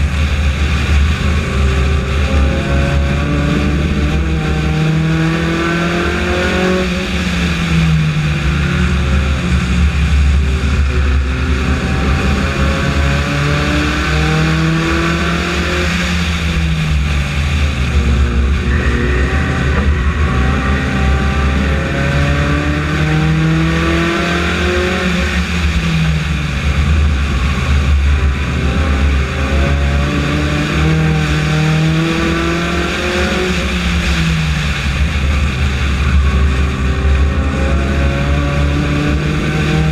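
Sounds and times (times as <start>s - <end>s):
race car engine revving: 0.0s - 39.9s
wind and road noise: 0.0s - 39.9s.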